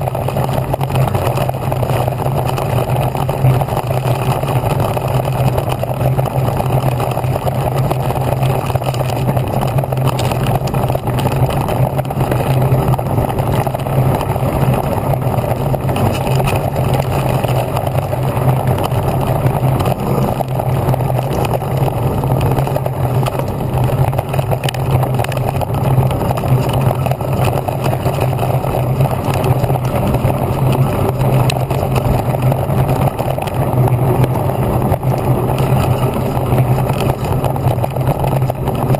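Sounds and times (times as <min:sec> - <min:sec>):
bike tyres rumbling on gravel: 0:00.0 - 0:38.9
handlebars rattling: 0:00.0 - 0:38.9.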